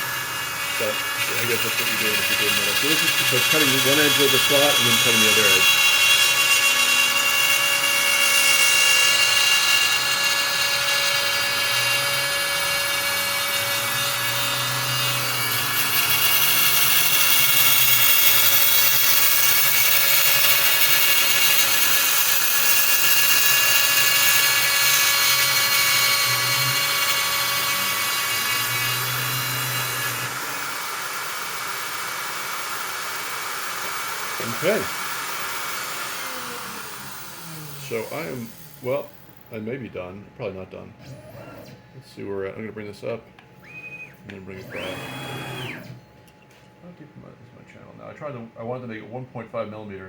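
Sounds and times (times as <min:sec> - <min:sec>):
cnc router spindle whine: 0:00.0 - 0:39.1, 0:43.6 - 0:46.6
motor hum: 0:00.0 - 0:40.1, 0:43.4 - 0:47.0.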